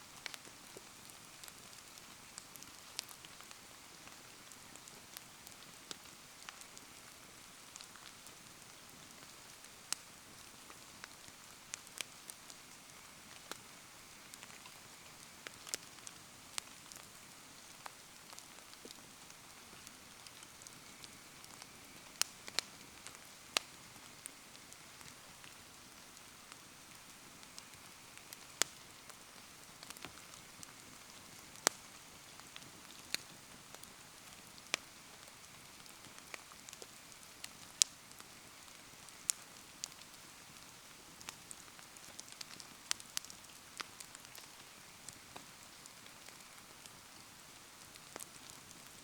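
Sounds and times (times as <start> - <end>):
fire crackling and popping: 0.1 - 49.0
rain pattering: 0.1 - 49.0.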